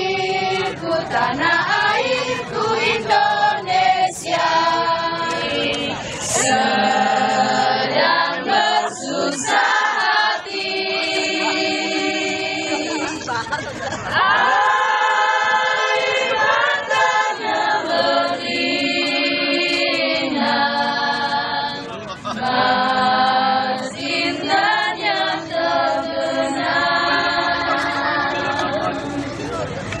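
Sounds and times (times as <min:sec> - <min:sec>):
group of people singing: 0:00.0 - 0:29.8.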